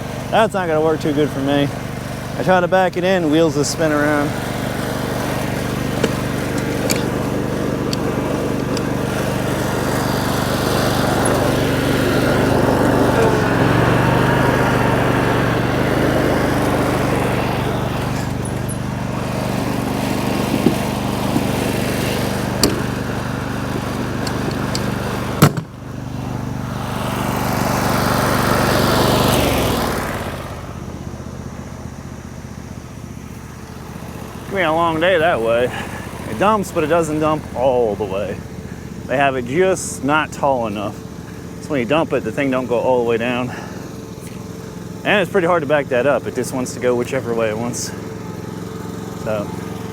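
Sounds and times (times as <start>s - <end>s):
small engine running: 0.0s - 49.9s.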